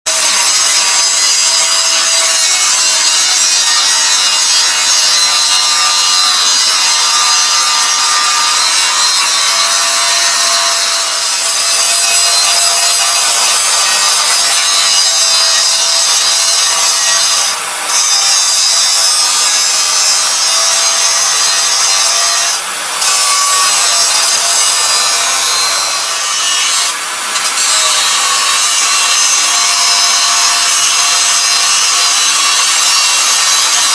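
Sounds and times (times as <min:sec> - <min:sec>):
lathe tool scraping metal: 0:00.1 - 0:33.9.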